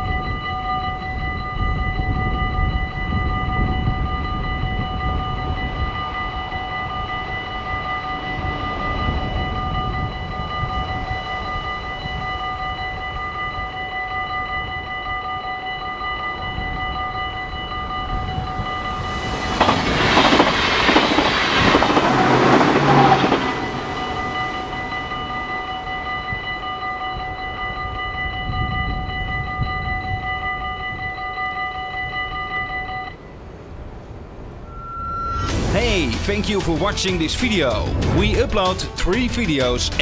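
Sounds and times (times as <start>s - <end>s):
level crossing bells ringing: 0.0s - 33.3s
passing train rush: 0.0s - 40.0s.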